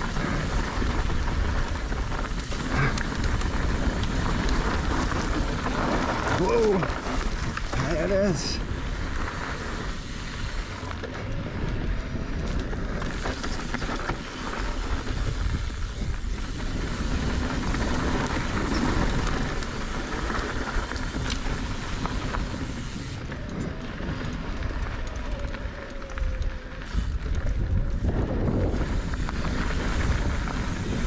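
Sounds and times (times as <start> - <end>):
bike rattling and clicking: 0.0 - 31.0
bike tyres crunching on dirt: 0.0 - 31.0
wind on microphone: 0.0 - 31.0.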